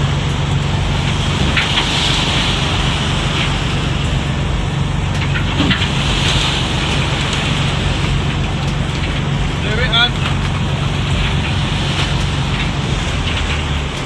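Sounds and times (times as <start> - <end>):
boat engine humming: 0.0 - 14.0
sea rushing: 0.0 - 14.0
wind: 0.0 - 14.0.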